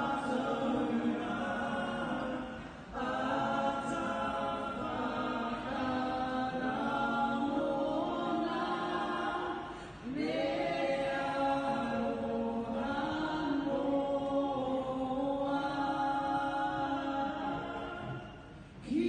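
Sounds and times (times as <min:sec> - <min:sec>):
group singing unaccompanied: 0:00.0 - 0:19.0.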